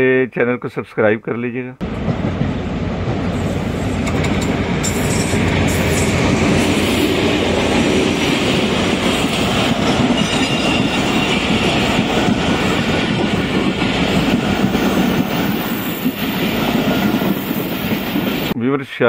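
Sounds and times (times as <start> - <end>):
train wheels rumbling on track: 1.8 - 18.6.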